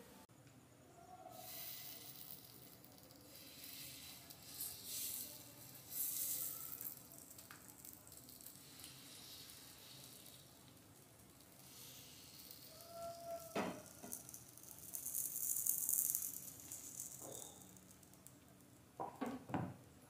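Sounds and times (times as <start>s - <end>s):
battered slices sizzling on hot pan: 1.4s - 18.4s.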